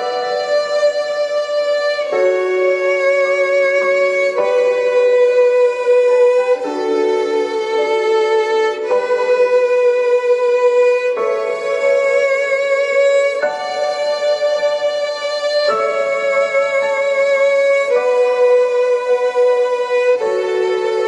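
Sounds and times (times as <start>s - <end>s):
violin slow held notes: 0.0s - 21.0s.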